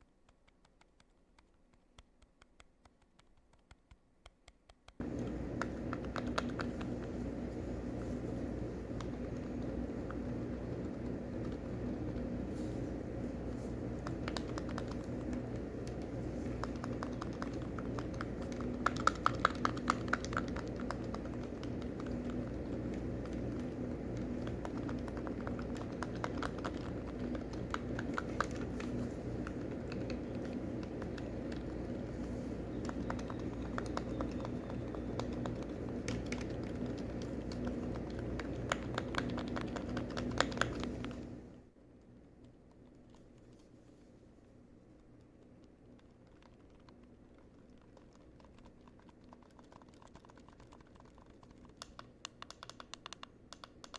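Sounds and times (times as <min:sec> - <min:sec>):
buttons clicking rapidly: 0:00.3 - 0:41.4, 0:45.9 - 0:53.9
steady low hum: 0:05.0 - 0:53.9.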